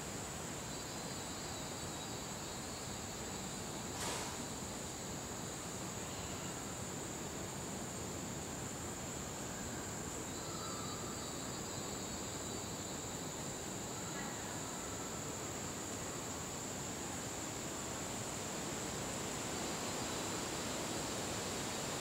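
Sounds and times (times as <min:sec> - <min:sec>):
insects droning: 0:00.0 - 0:22.0
soft hiss: 0:00.0 - 0:22.0.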